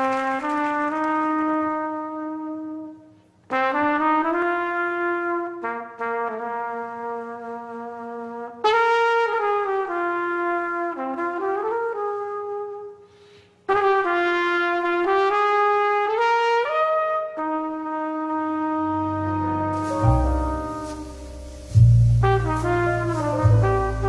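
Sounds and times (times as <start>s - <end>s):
brass fanfare: 0.0s - 13.0s, 13.7s - 24.0s.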